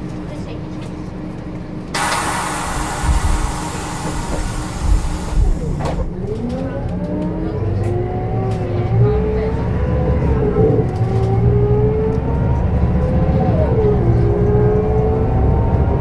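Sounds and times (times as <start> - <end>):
bus engine and gearbox whine: 1.1 - 16.0.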